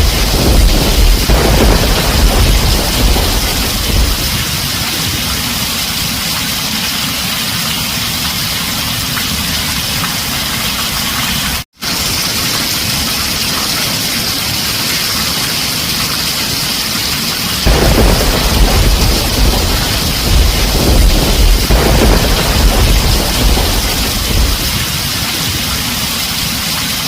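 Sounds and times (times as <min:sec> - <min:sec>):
heavy rain on a tin roof: 0:00.0 - 0:27.0.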